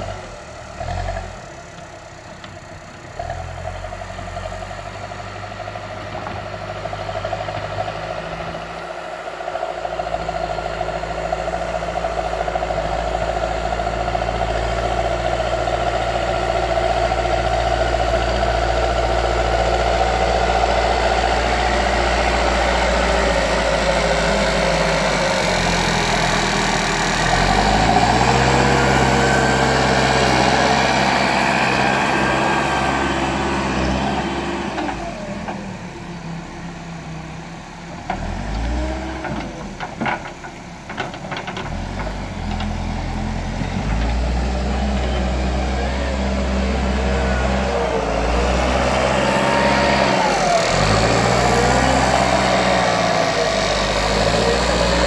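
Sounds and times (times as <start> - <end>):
diesel engine working: 0.0 - 55.0.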